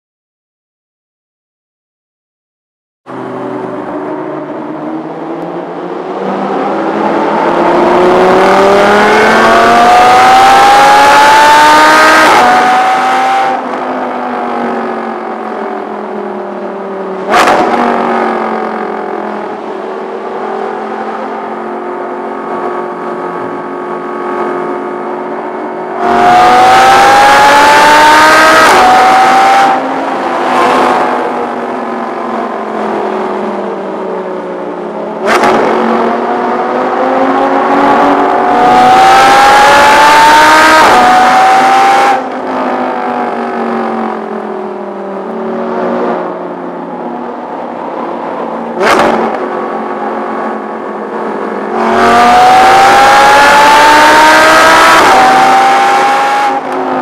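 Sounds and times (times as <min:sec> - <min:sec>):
car engine revving and accelerating: 0:03.1 - 0:57.0.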